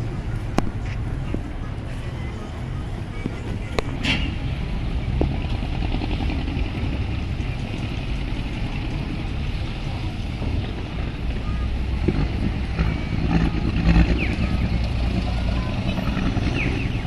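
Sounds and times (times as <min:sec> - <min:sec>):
boat engines rumbling: 0:00.0 - 0:17.0
water noise: 0:00.0 - 0:17.0
wind: 0:00.0 - 0:17.0.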